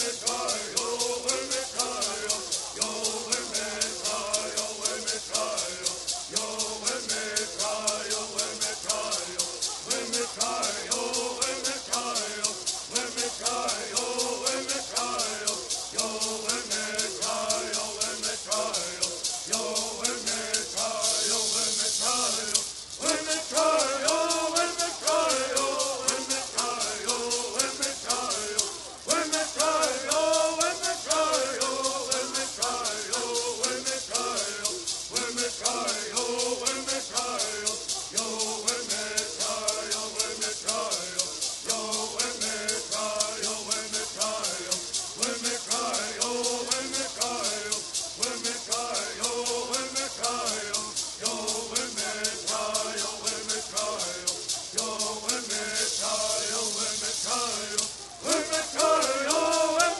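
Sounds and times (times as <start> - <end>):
gourd rattles shaking: 0.0 - 59.9
men singing in unison: 0.0 - 59.9.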